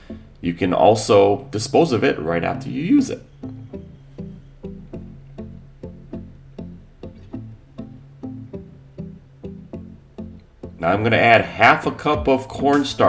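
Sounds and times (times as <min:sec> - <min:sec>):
low bass line: 0:00.0 - 0:13.0
plucked string notes: 0:00.0 - 0:13.0.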